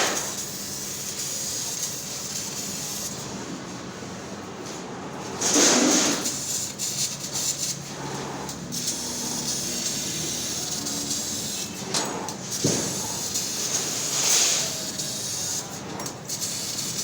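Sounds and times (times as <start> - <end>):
laser cutting machine hissing: 0.0 - 3.3, 5.4 - 17.0.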